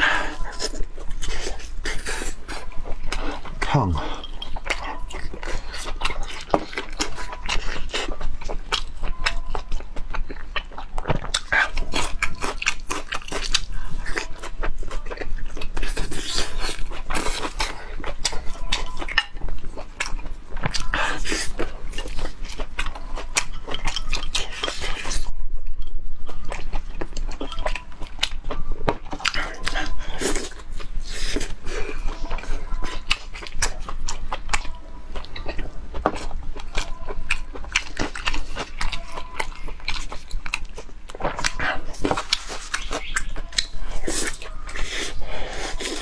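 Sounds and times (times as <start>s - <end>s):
wet chewing and mouth smacks: 0.0s - 46.0s.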